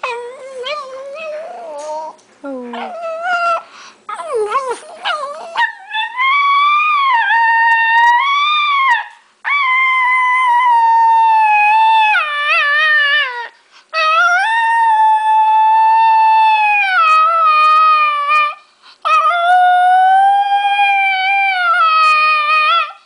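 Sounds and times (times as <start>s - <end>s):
dog howling: 2.8s - 23.0s.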